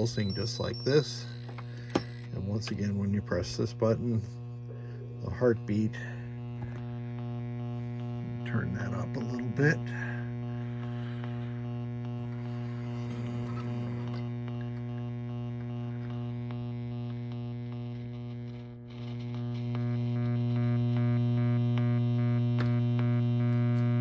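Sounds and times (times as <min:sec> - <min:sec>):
buzzing electronic tone: 0:00.0 - 0:24.0.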